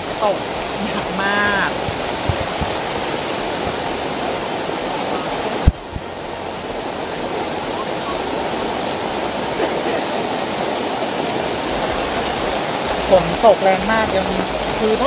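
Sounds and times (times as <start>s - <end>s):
heavy rain on plastic tarp: 0.0s - 15.0s.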